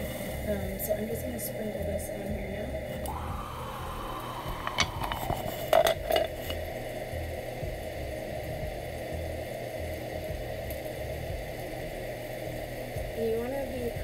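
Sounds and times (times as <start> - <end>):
mushrooms sizzling in skillet: 0.0 - 14.0.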